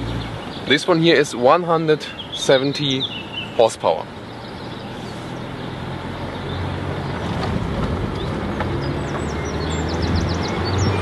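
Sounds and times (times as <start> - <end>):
car engine pulling: 0.0 - 11.0.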